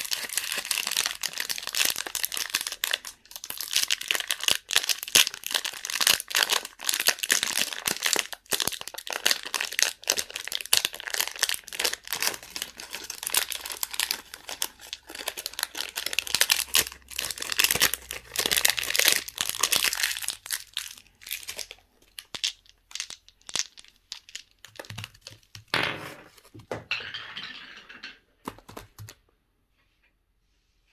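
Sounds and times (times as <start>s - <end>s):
candy wrappers crinkling: 0.0s - 25.7s.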